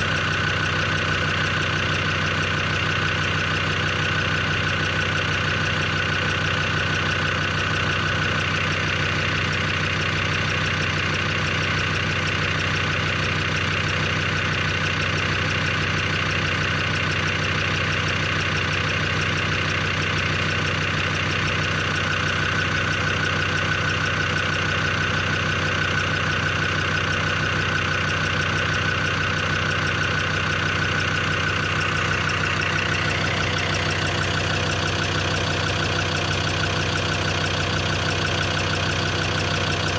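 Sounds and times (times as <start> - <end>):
diesel engine idling: 0.0 - 39.9
fast even engine ticking: 0.0 - 39.9.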